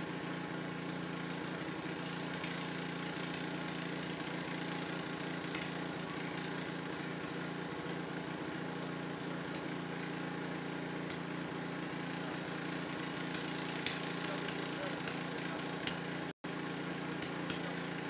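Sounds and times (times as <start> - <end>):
motor running steadily: 0.0 - 18.0.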